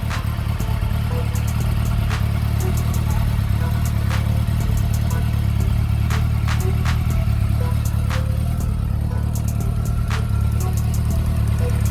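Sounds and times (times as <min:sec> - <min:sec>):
motorcycle engine idling: 0:00.0 - 0:11.9
sharp engine tick: 0:00.0 - 0:11.9.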